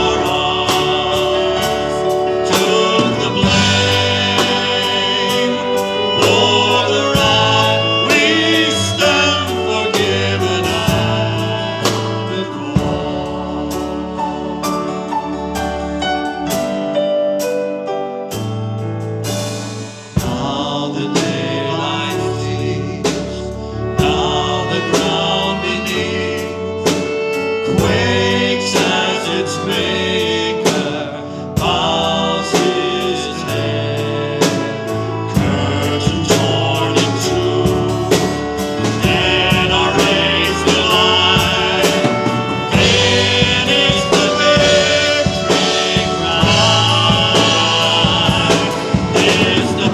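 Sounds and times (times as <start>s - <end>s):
voices singing: 0.0s - 16.6s, 20.0s - 49.9s
band with bass keyboard and drums: 0.0s - 49.9s.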